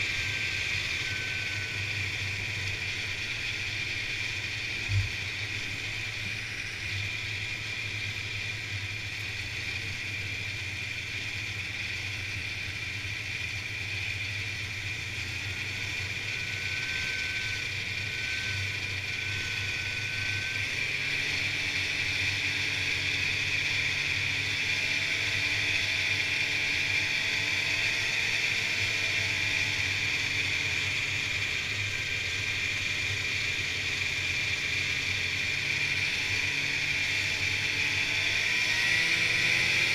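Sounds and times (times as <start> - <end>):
high whine: 0.0 - 39.9
snowmobile engine running: 0.0 - 39.9.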